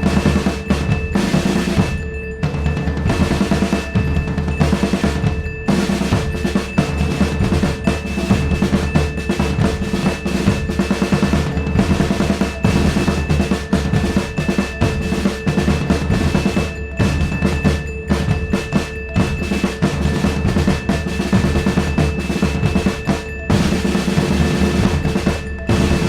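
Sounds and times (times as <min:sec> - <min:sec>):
fast drum rolls and percussion: 0:00.0 - 0:26.0.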